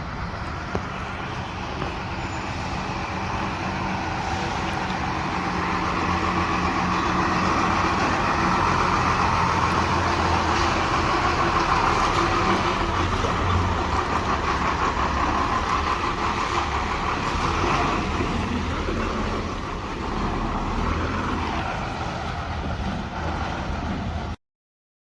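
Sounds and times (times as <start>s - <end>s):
heavy vehicle engine running: 0.0s - 24.4s.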